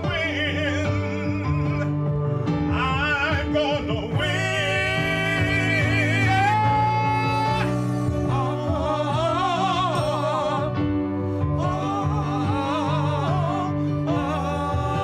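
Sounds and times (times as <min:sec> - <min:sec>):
instrumental backing: 0:00.0 - 0:15.0
singer with vibrato: 0:00.0 - 0:15.0.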